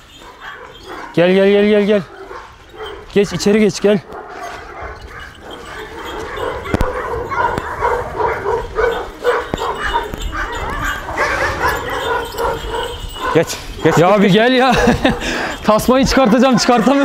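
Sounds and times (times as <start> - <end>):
large dogs barking: 0.0 - 17.0.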